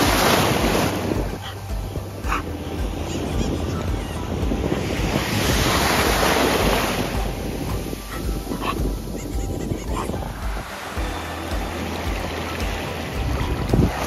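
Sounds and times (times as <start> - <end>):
small waves breaking on shore: 0.0 - 14.0
wind rumbling on microphone: 0.0 - 14.0.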